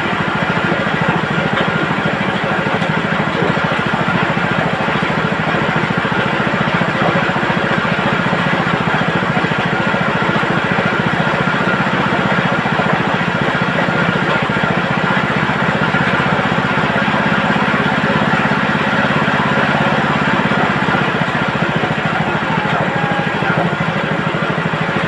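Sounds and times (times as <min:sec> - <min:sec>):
plucking machine rattling drone: 0:00.0 - 0:25.0.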